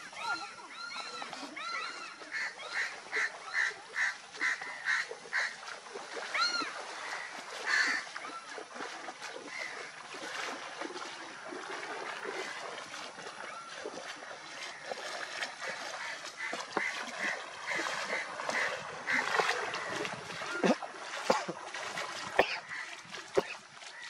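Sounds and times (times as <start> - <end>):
bicycle pushed through water: 0.0 - 24.0
feet splashing through water: 0.0 - 24.0.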